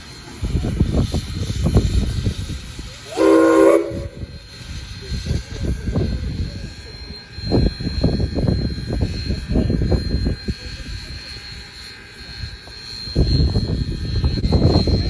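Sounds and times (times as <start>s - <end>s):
wind buffeting microphone: 0.4s - 11.2s, 12.4s - 15.0s.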